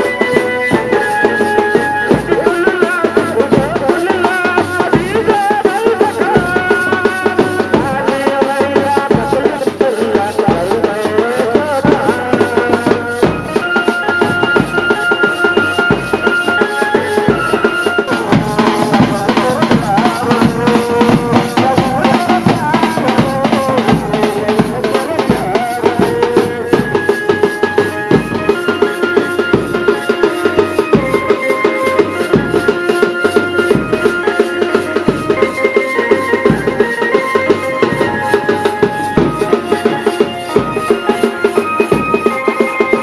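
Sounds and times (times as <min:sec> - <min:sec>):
melodic instruments: 0:00.0 - 0:43.0
steady drum beat: 0:00.0 - 0:43.0.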